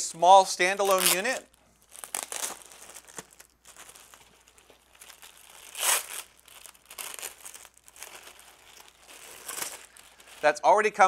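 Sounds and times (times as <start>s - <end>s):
plastic bag crinkling: 0.4s - 10.7s.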